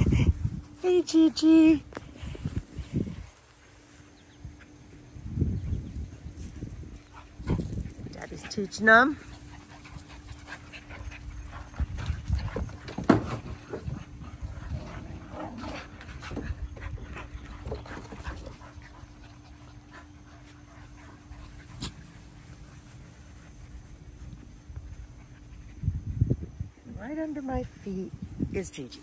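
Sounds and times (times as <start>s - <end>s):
puppies panting: 3.4s - 26.8s.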